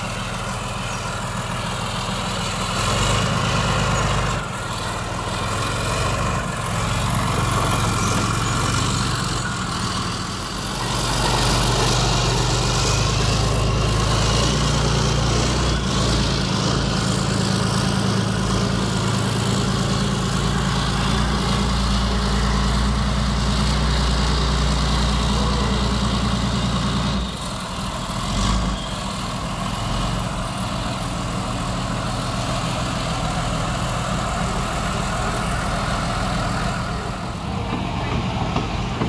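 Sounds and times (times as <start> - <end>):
tank diesel engine running: 0.0 - 39.0.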